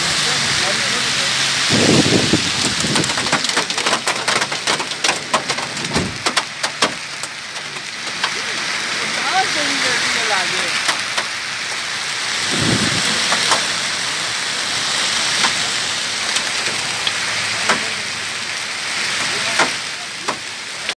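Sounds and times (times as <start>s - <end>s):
hailstones striking: 0.0s - 21.0s
heavy rain on road: 0.0s - 21.0s.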